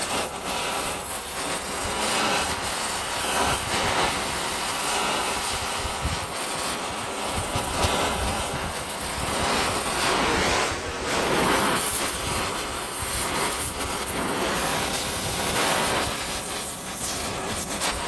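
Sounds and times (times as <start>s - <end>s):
torch flame rushing: 0.0s - 18.0s.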